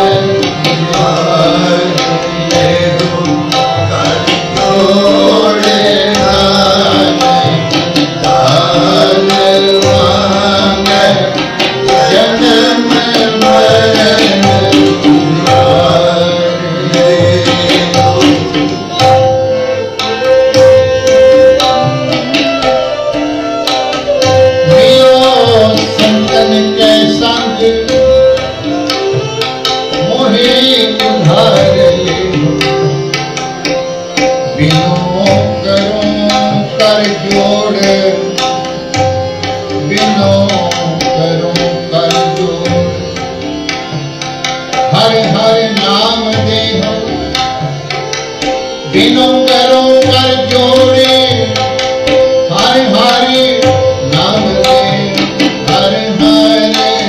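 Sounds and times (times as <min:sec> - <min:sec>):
harmonium drone: 0:00.0 - 0:57.0
tabla rhythm: 0:00.0 - 0:57.0.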